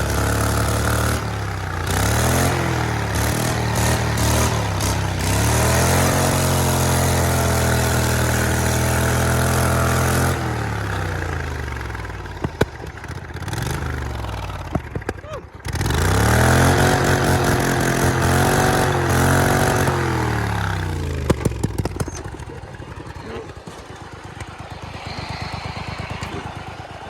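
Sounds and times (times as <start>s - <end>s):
lawnmower engine revving: 0.0s - 27.0s.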